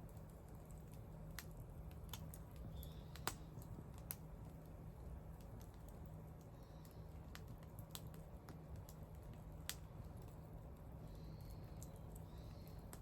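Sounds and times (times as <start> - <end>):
fire pops: 0.0 - 10.5, 11.4 - 13.0
wood fire crackling: 0.0 - 13.0.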